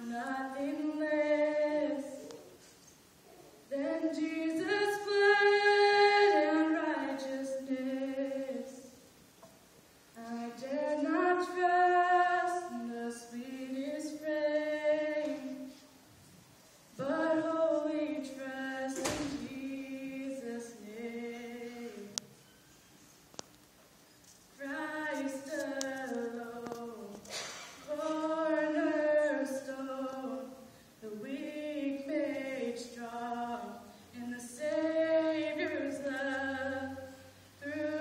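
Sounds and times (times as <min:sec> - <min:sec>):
woman singing unaccompanied: 0:00.0 - 0:02.4, 0:03.7 - 0:09.0, 0:10.2 - 0:15.8, 0:16.9 - 0:22.4, 0:24.5 - 0:38.0.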